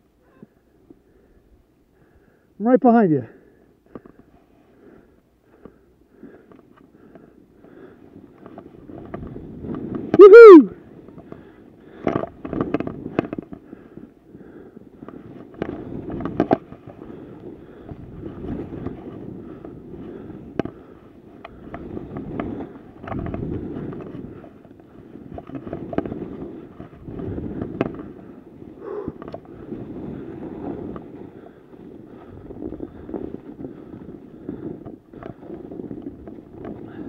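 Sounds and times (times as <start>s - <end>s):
skis scraping through snow: 6.2s - 10.2s, 10.8s - 37.0s.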